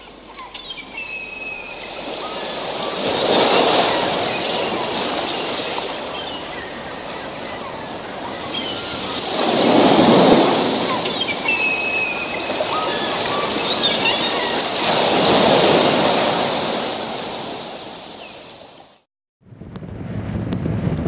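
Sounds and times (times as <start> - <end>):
small waves washing onto shore: 1.4 - 19.0.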